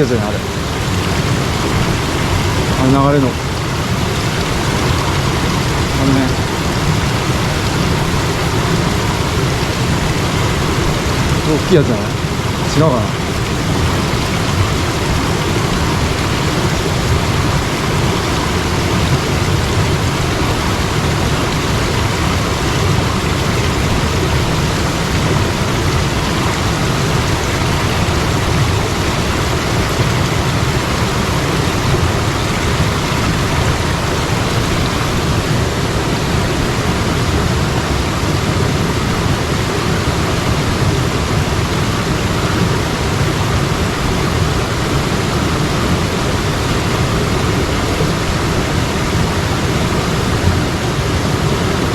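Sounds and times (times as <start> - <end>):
mountain stream rushing: 0.0 - 51.9.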